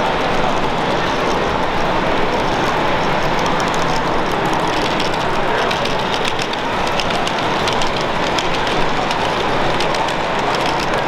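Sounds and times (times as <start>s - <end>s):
busy exhibition hall din: 0.0s - 11.0s.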